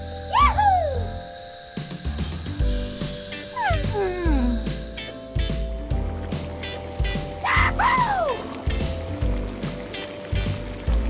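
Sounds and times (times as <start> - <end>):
background music with steady beat: 1.8 - 11.0.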